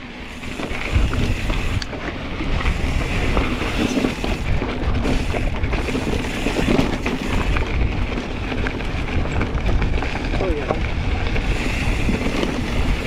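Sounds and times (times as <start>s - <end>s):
wind buffeting microphone: 0.0s - 13.0s
bike tyres rattling on stones: 0.2s - 13.0s.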